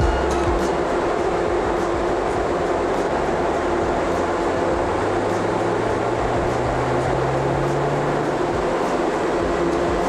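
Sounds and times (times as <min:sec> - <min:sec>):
dyno roller noise: 0:00.0 - 0:10.0
fan noise: 0:00.0 - 0:10.0
rotary engine revving under load: 0:00.8 - 0:10.0.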